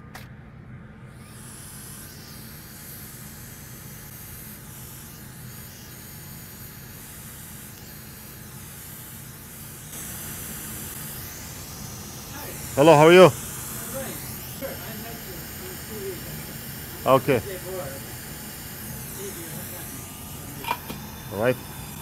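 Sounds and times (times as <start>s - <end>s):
hot-air station hissing: 1.1s - 22.0s.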